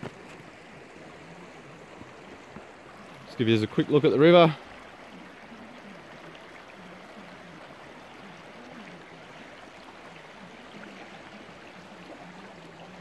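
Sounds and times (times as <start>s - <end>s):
river babbling over stones: 0.0s - 13.0s.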